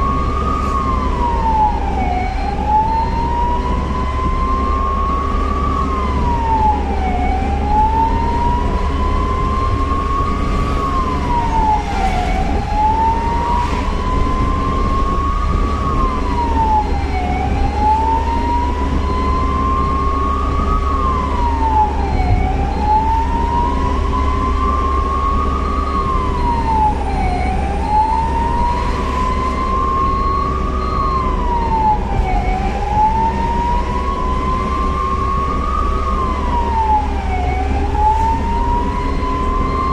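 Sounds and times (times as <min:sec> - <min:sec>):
ambulance siren wailing: 0:00.0 - 0:39.9
engine and road rumble: 0:00.0 - 0:39.9.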